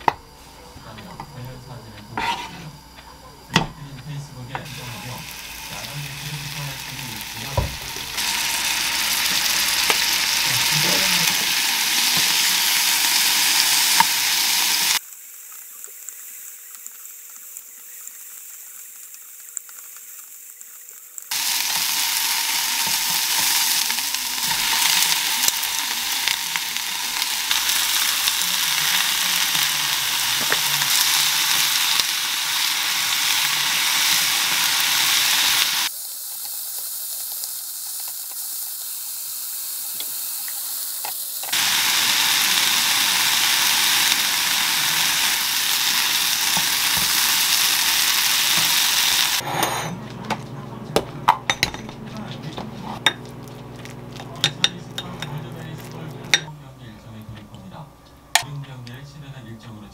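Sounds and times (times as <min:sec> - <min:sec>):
chicken sizzling in a frying pan: 0:00.4 - 0:49.9, 0:50.5 - 0:57.2.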